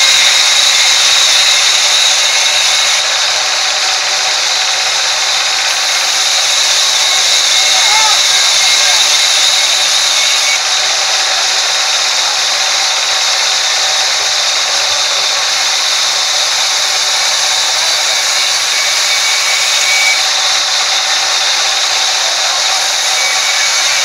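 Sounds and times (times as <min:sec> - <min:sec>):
band saw cutting log: 0:00.0 - 0:24.0.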